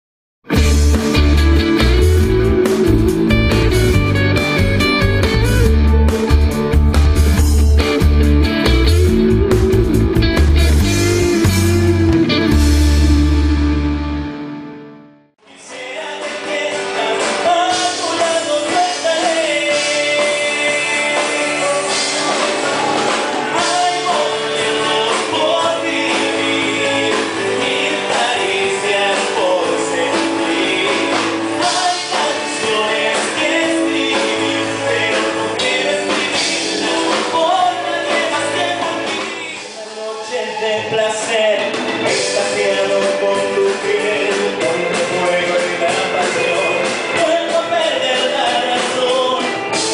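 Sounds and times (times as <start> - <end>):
live rock band music: 0.4 - 49.9
person singing: 7.8 - 14.6, 15.4 - 49.9.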